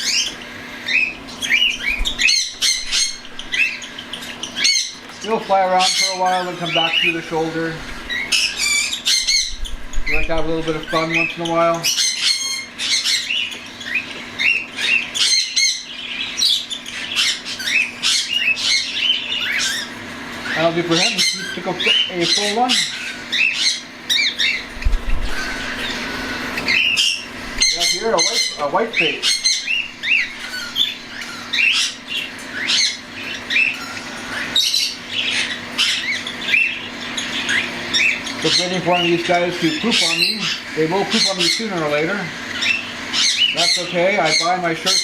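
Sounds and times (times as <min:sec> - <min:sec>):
steady low hum: 0:00.0 - 0:44.9
cockatiels chirping and squawking: 0:00.0 - 0:45.0.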